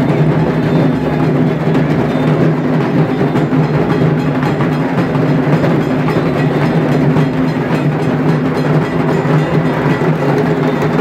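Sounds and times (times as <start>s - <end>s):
many barrel drums beaten: 0.0s - 11.0s.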